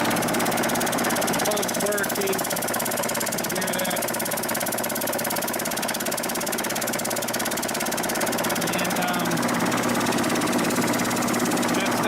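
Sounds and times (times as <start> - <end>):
air pump chattering: 0.0 - 12.0
bandsaw running: 0.0 - 12.0.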